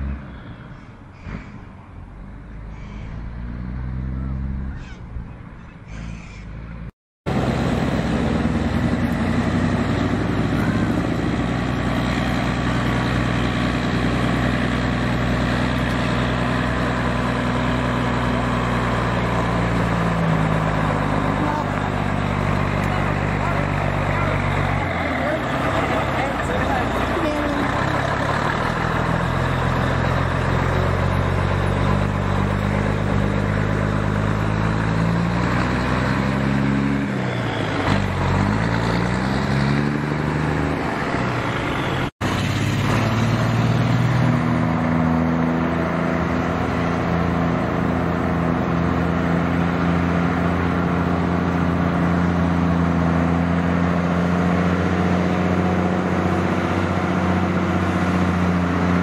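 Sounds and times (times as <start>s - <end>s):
truck diesel engine accelerating: 0.0s - 5.3s, 6.1s - 59.0s.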